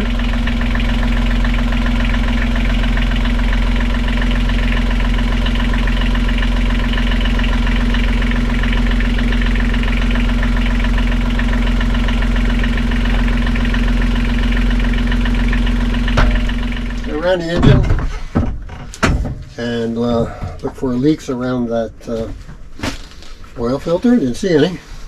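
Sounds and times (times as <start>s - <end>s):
diesel engine idling: 0.0s - 17.8s, 19.4s - 25.0s.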